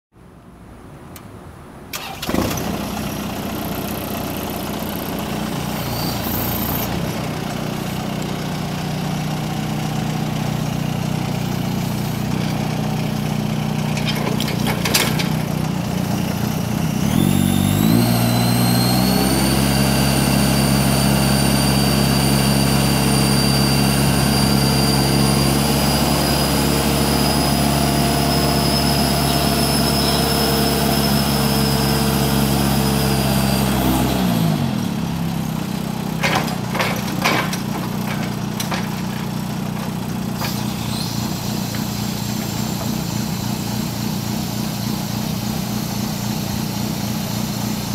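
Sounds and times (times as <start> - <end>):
forklift engine starting and idling: 1.9 - 47.9
high hydraulic whine: 1.9 - 47.9.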